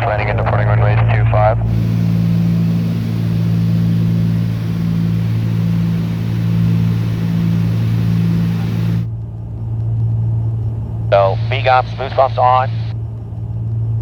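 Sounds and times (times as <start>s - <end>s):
propeller plane engines droning: 0.0s - 9.2s, 10.8s - 13.1s.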